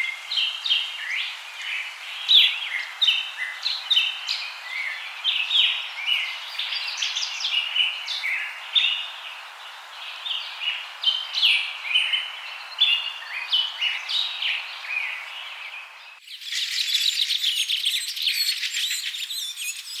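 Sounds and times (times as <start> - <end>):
birds chirping and whistling: 0.0 - 20.0
forest ambience hiss: 0.0 - 20.0.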